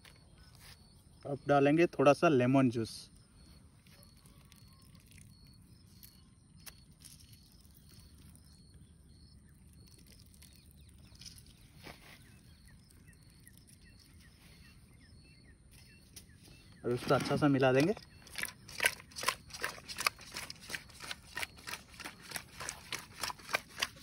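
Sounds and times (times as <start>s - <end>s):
faint high chirp: 0.0s - 23.0s
faint outdoor ambience: 0.0s - 24.0s.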